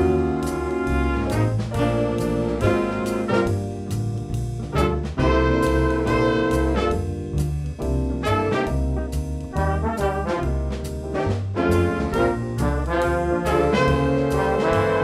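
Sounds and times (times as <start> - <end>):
brass band playing chords: 0.0 - 15.0.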